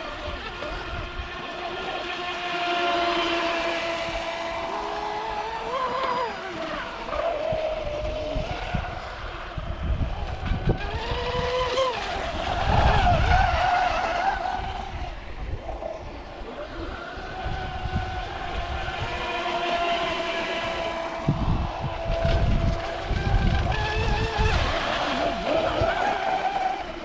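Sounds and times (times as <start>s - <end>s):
model boat motors whining: 0.0s - 27.0s.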